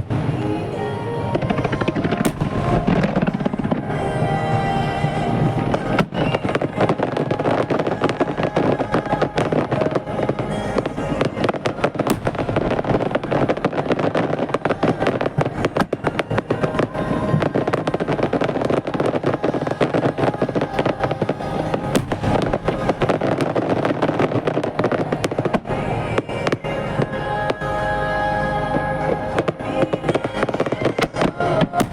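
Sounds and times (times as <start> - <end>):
fireworks bursting: 0.0 - 28.0, 28.9 - 31.9
continuous rumble: 0.0 - 31.9.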